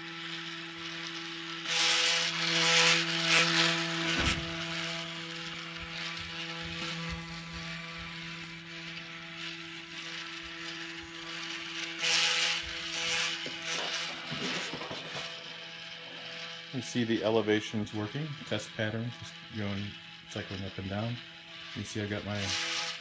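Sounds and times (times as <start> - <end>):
stepper motors whining: 0.0 - 23.0.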